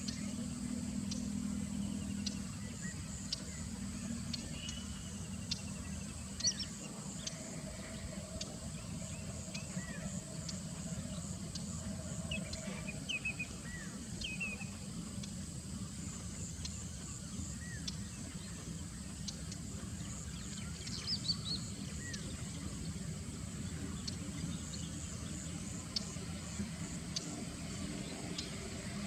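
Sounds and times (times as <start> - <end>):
low outdoor rumble: 0.0 - 29.0
small birds chirping and trilling: 0.0 - 29.0.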